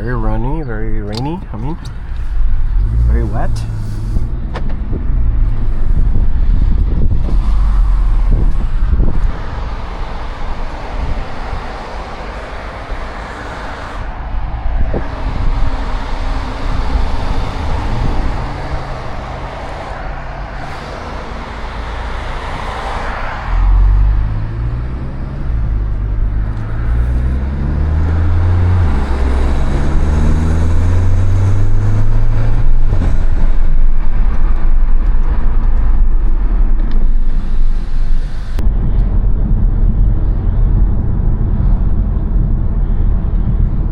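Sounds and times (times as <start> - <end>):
car engine accelerating: 0.0 - 39.2.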